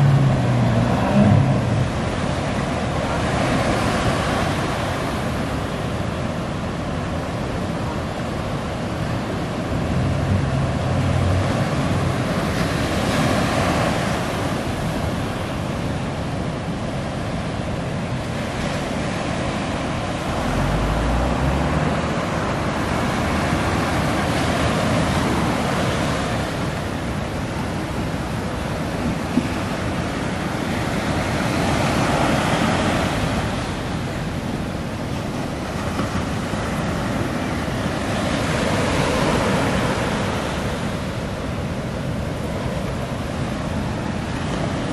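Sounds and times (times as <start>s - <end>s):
ocean surf breaking: 0.0s - 44.9s.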